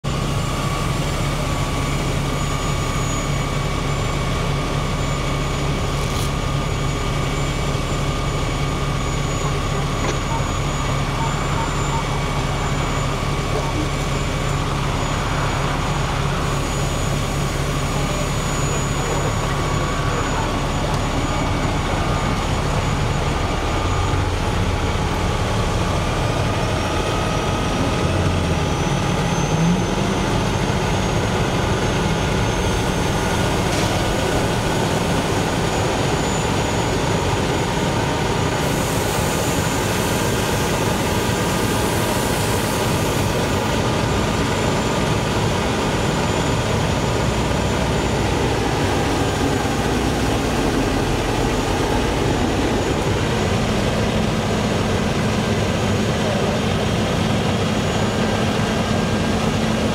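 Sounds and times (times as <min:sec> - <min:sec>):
heavy engine running: 0:00.0 - 0:59.9.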